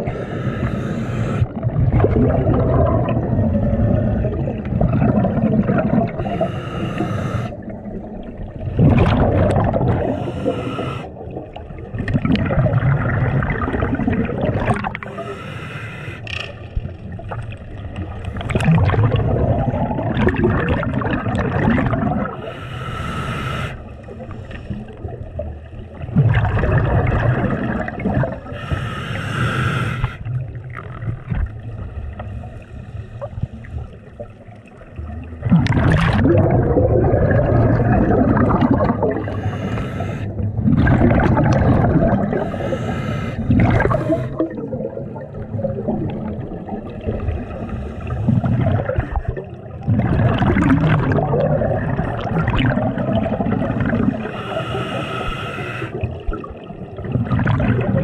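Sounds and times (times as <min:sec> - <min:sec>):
scuba exhalation bubbles: 0:00.0 - 0:15.3, 0:16.8 - 0:22.6, 0:23.5 - 0:28.7, 0:35.0 - 0:58.0.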